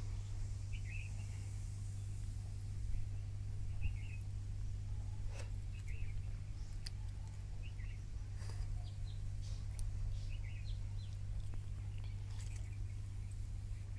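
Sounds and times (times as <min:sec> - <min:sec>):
birds chirping: 0:00.0 - 0:13.9
steady low hum: 0:00.0 - 0:13.9.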